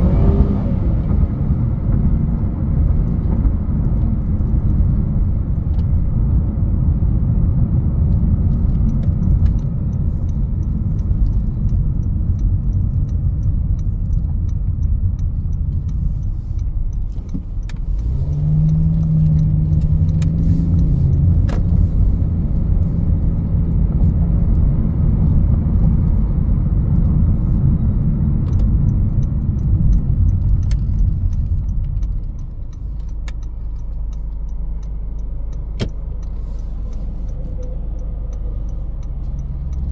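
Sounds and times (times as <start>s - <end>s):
car cabin road noise: 0.0s - 39.9s
low engine drone: 0.0s - 39.9s.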